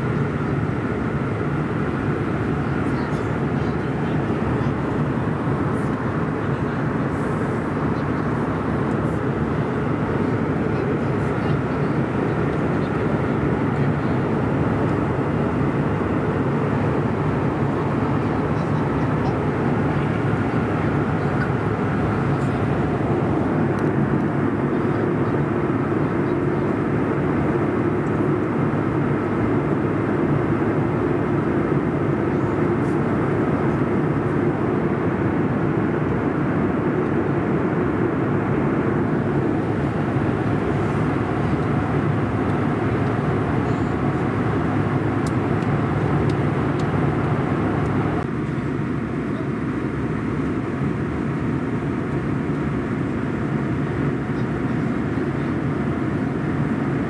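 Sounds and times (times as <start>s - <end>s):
jet airliner cabin rush: 0.0s - 57.0s.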